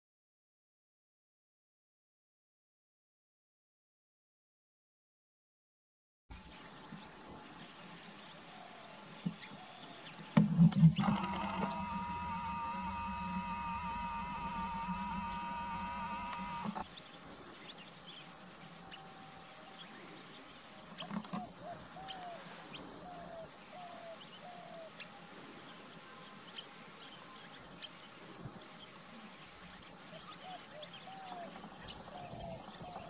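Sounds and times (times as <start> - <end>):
insect chorus: 6.3 - 33.0.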